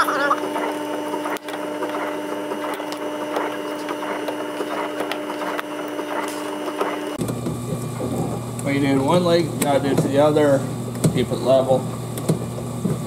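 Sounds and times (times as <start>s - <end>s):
dishwasher humming: 0.0s - 13.0s.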